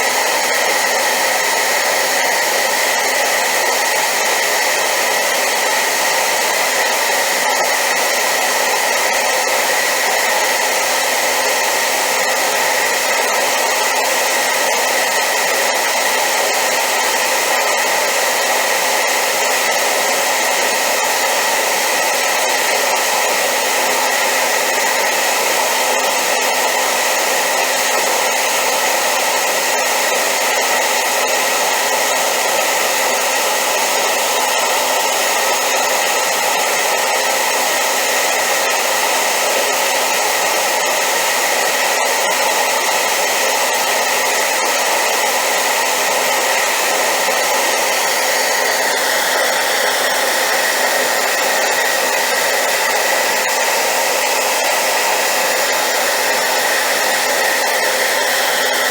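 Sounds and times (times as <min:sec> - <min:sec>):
hair dryer running: 0:00.0 - 0:58.9.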